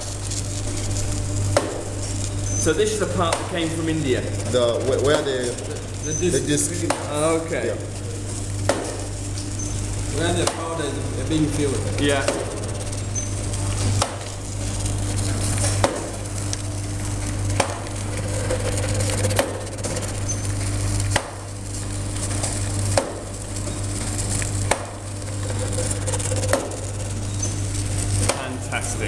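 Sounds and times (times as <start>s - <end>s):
machine motor hum: 0.0s - 29.0s.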